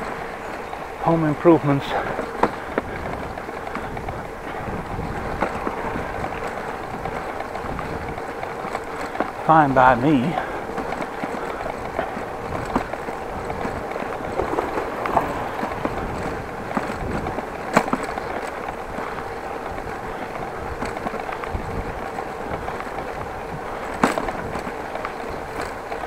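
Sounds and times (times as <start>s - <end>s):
bicycle tyres rumbling on bricks: 0.0s - 26.0s
bike rattling: 0.0s - 26.0s.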